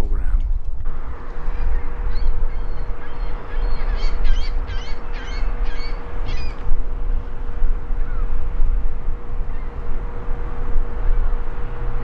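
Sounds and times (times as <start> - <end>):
birds calling: 0.0 - 12.0
low rumble: 0.0 - 12.0.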